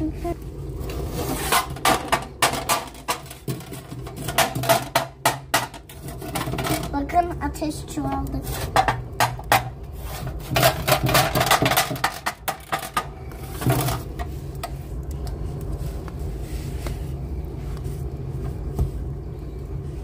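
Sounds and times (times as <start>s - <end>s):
steady low hum: 0.0s - 20.0s
wood fire crackling and popping: 0.0s - 20.0s.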